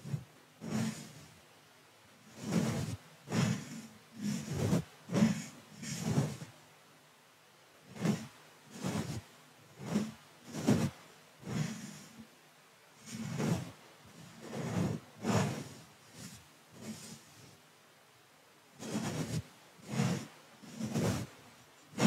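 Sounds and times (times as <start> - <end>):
soft brush swishing on microphone: 0.0 - 1.4, 2.1 - 6.6, 7.8 - 17.7, 18.7 - 22.0.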